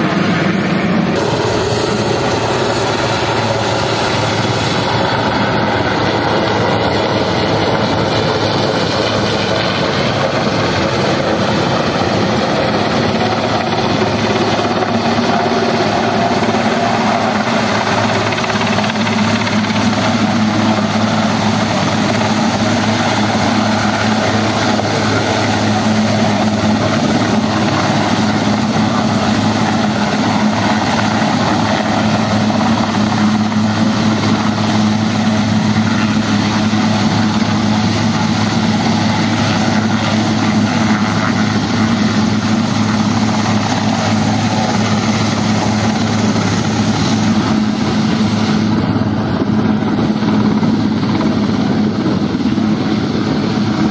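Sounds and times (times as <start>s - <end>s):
helicopter hovering: 0.0s - 53.9s.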